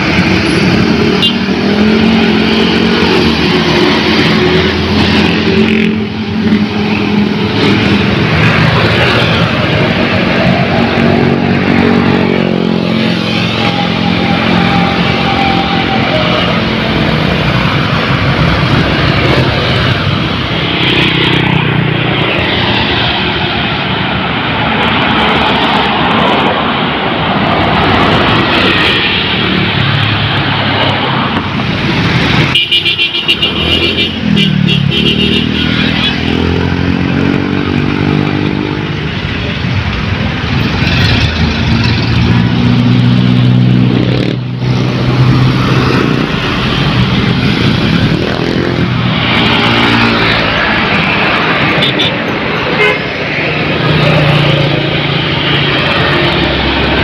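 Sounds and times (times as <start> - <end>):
busy road traffic: 0.0 - 57.0.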